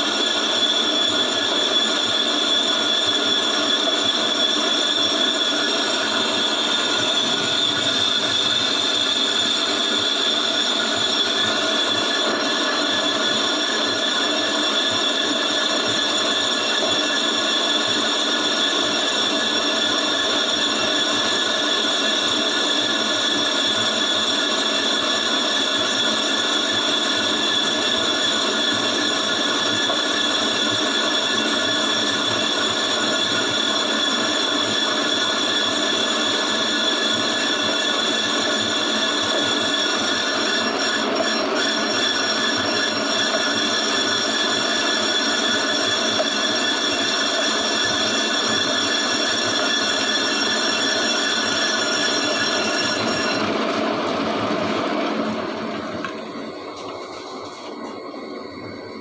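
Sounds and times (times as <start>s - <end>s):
lathe cutting metal squeal: 0.0s - 59.0s.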